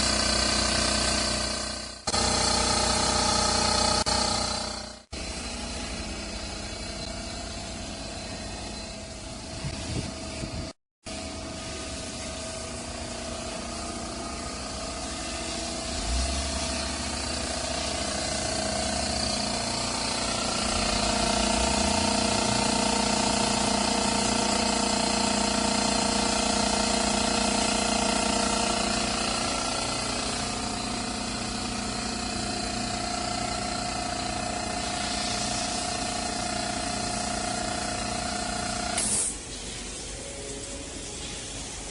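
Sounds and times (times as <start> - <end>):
air compressor humming and hissing: 0.0 - 41.9.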